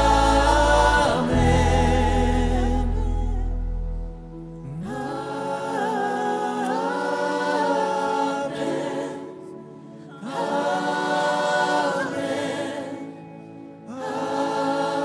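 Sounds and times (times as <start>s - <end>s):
congregation singing: 0.0s - 15.0s.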